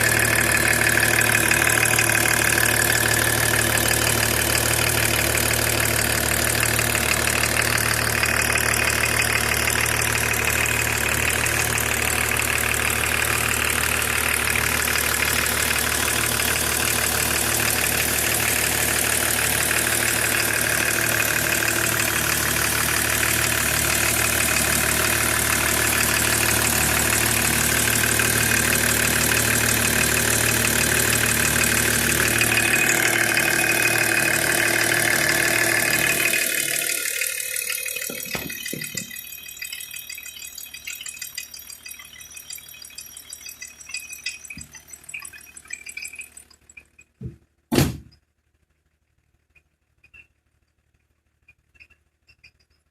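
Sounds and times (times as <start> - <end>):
diesel engine idling: 0.0 - 46.7.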